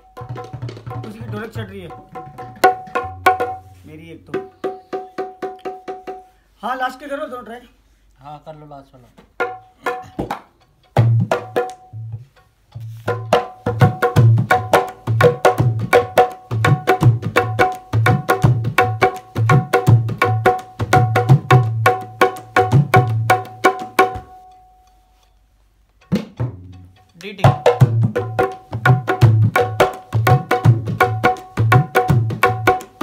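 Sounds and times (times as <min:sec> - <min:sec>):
hand drums playing: 0:00.0 - 0:06.4, 0:09.3 - 0:24.7, 0:26.0 - 0:33.0.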